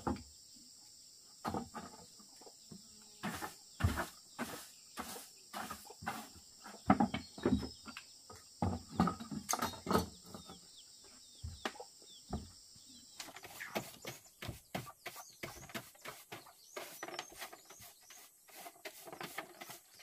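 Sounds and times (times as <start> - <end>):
irregular knocks and thumps: 0.0 - 0.3, 1.4 - 10.7, 11.4 - 12.6, 13.2 - 20.0
high insect buzz: 0.0 - 8.7, 12.1 - 20.0.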